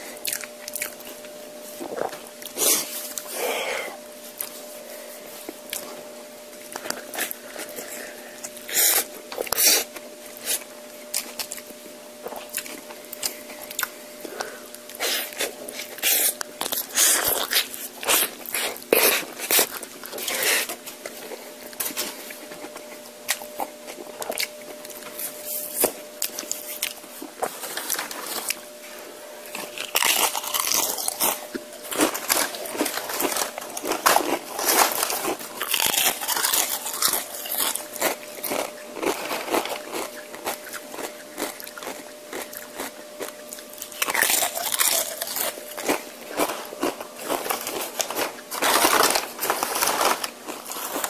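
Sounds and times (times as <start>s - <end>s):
crunchy chewing: 0.0s - 3.4s, 5.5s - 51.0s
faint steady hum: 0.0s - 51.0s.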